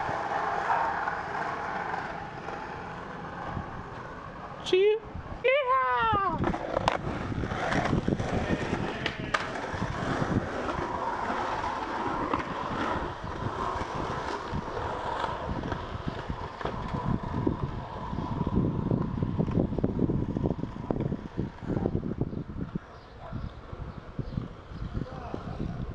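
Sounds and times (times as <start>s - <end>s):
skateboard clacks: 0.0s - 4.6s, 6.2s - 22.9s
skateboard wheels rumbling on concrete: 0.0s - 25.9s.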